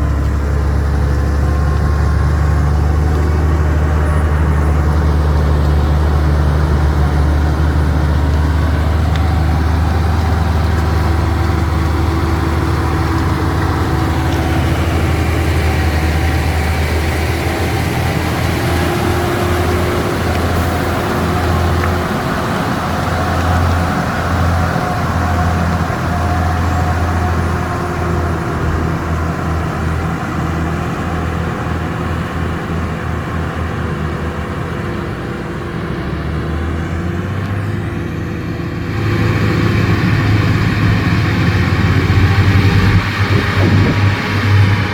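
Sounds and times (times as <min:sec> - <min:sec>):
heavy diesel engine droning: 0:00.0 - 0:44.9.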